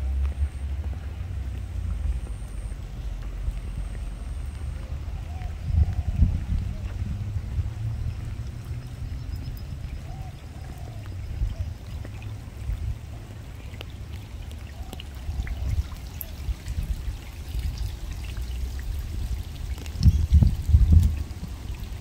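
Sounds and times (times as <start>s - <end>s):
steady low rumble: 0.0s - 22.0s
water trickling and dripping: 0.0s - 22.0s.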